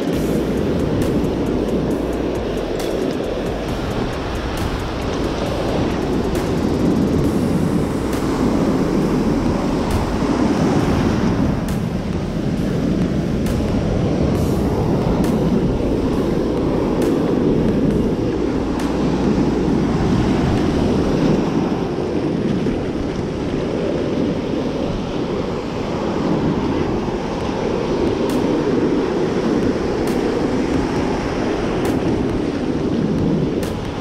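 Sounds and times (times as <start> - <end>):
ocean surf breaking: 0.0 - 34.0
wind rumbling on microphone: 0.0 - 34.0.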